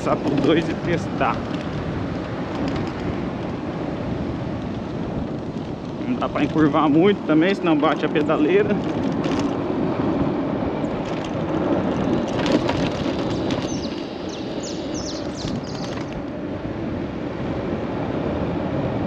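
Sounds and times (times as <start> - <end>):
tyre-on-road noise: 0.0 - 19.0
wind rushing over microphone: 0.0 - 19.0.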